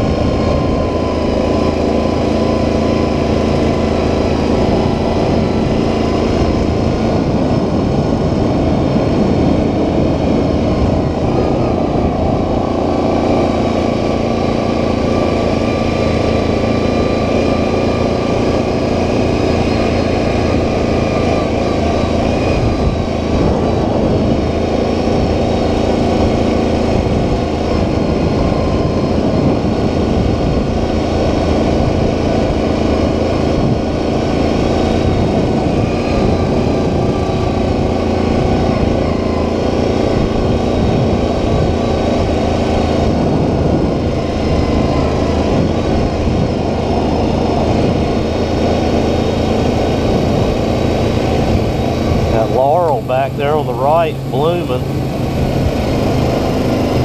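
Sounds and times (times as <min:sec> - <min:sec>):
atv engine drone: 0:00.0 - 0:57.0
ride rumble: 0:00.0 - 0:57.0.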